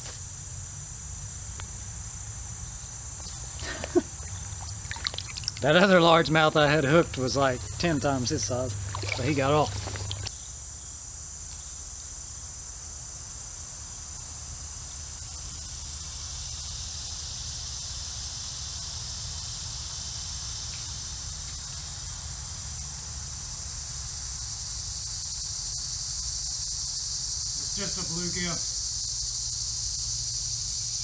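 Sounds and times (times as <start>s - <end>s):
insects buzzing shrilly: 0.0s - 31.0s.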